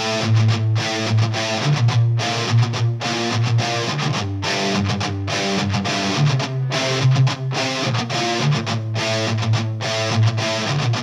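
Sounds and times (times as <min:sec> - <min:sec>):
guitar-led music: 0:00.0 - 0:11.0.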